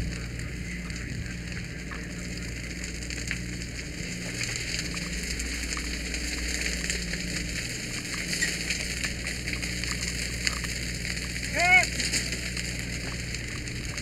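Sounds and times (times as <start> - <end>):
fire crackling and hissing: 0.0 - 14.0
steady low drone: 0.0 - 14.0.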